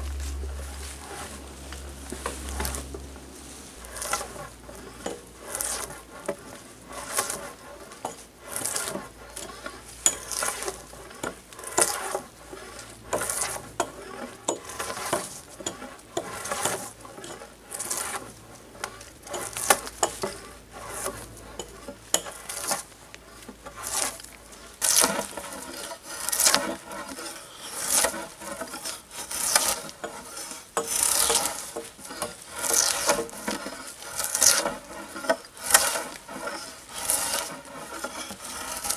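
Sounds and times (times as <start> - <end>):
drawknife scraping bark off log: 0.3 - 38.9.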